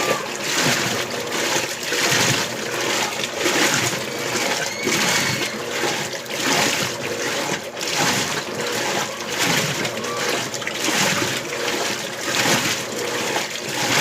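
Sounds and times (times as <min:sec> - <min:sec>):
washing machine water sloshing: 0:00.0 - 0:14.0.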